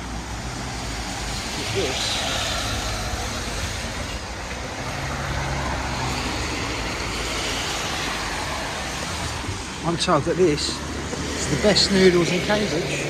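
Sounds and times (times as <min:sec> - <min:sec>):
traffic hiss on wet street: 0:00.0 - 0:13.0
vehicle engine running close: 0:00.0 - 0:13.0.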